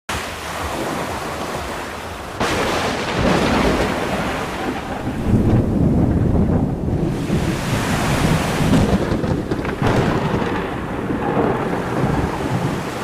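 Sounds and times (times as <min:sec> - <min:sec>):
steady rain: 0:00.1 - 0:13.0
rolling thunder: 0:02.4 - 0:13.0.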